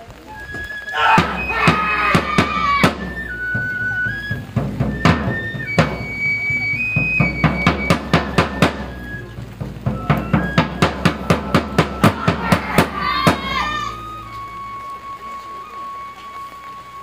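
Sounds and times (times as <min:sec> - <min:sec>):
flute playing held notes: 0:00.0 - 0:17.0
drum beaten with sticks: 0:01.0 - 0:16.1.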